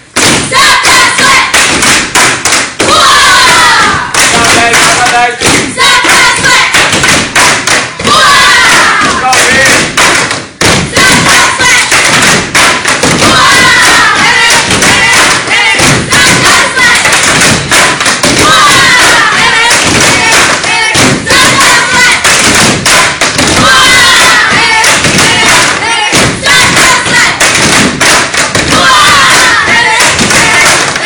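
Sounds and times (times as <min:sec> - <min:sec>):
rhythmic stomps on gym floor: 0:00.0 - 0:31.0
people shouting chants: 0:00.3 - 0:01.9, 0:02.8 - 0:10.0, 0:10.8 - 0:31.0.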